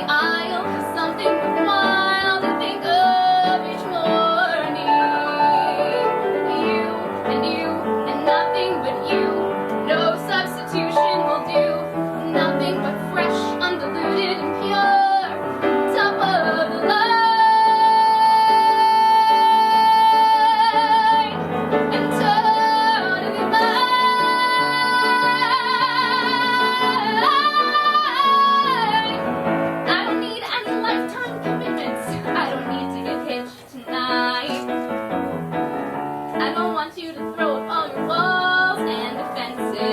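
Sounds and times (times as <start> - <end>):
woman singing: 0.0 - 35.0, 36.3 - 39.9
piano accompaniment: 0.0 - 39.9.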